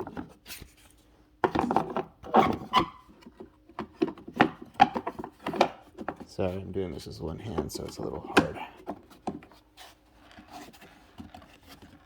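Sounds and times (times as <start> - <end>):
scraping and rubbing handling noises: 0.0 - 12.0.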